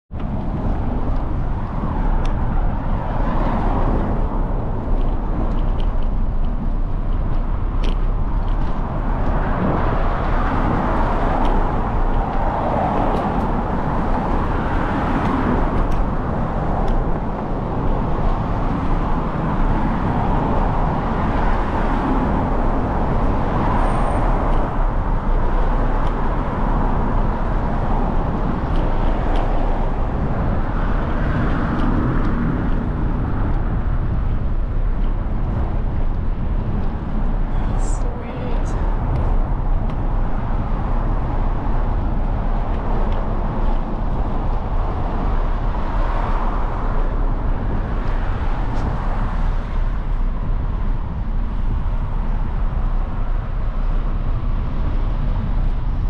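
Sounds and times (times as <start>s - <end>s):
wind and road noise from bicycle: 0.1s - 56.0s.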